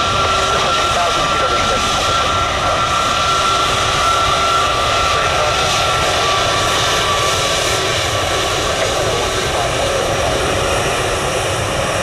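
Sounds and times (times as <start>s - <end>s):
high engine whine: 0.0s - 12.0s
jet engines roaring: 0.0s - 12.0s.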